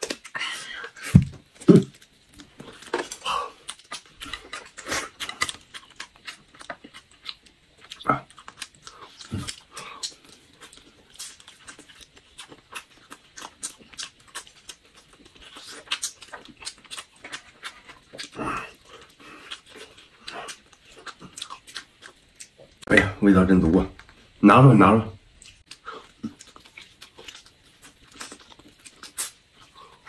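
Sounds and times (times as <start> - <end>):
people chewing: 0.0 - 23.1, 25.3 - 30.0.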